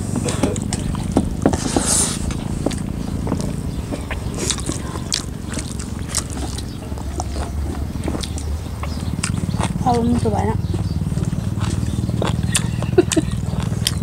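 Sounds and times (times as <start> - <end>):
steady low hum: 0.0 - 14.0
wet chewing and lip smacks: 0.1 - 14.0.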